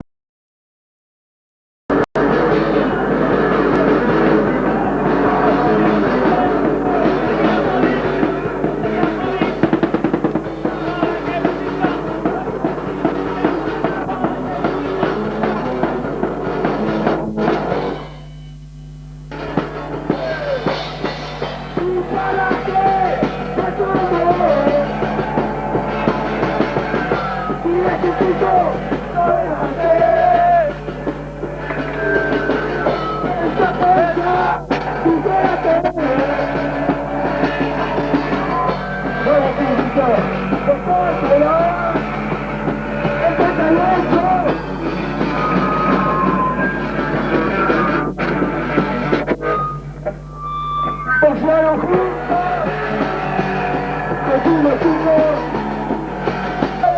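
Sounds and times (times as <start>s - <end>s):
loud rock music with drums: 1.9s - 56.9s.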